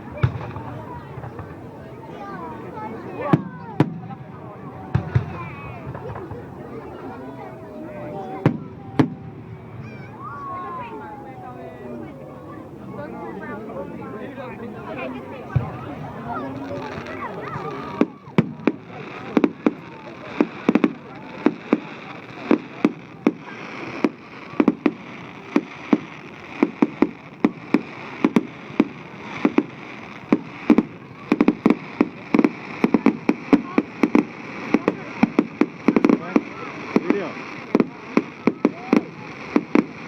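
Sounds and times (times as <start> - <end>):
fireworks bangs: 0.0 - 11.6, 14.8 - 40.0.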